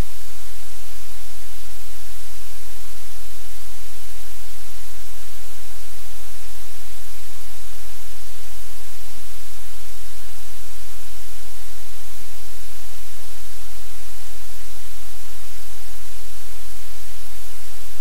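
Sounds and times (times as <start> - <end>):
static hiss: 0.0 - 18.0.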